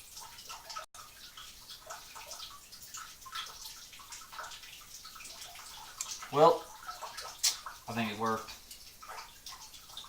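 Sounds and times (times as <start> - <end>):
water trickling into a pit: 0.0 - 10.0.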